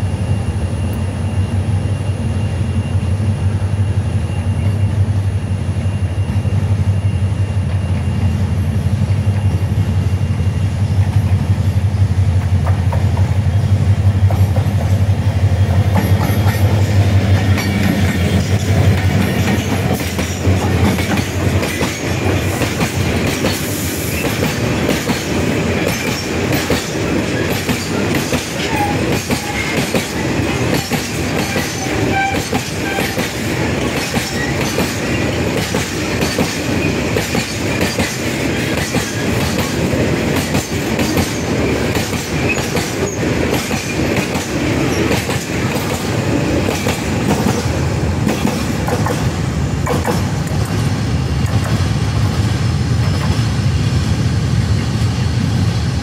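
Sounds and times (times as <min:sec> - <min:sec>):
freight train wheels rattling: 0:05.8 - 0:56.0.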